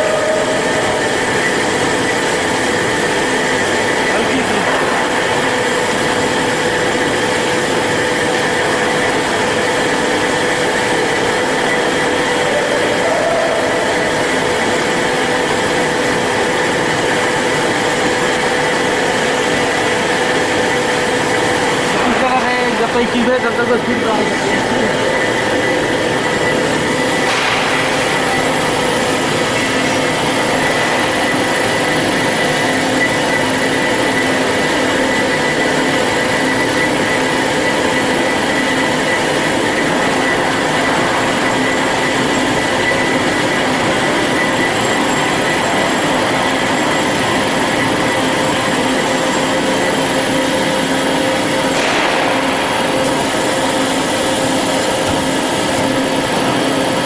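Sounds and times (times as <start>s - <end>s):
band saw running: 0.0s - 57.0s.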